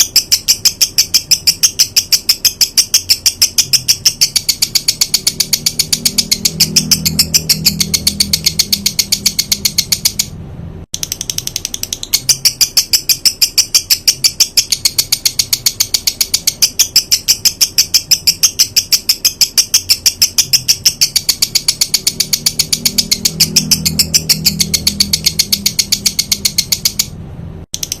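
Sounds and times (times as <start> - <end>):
rapid high-pitched bird notes: 0.0 - 28.0.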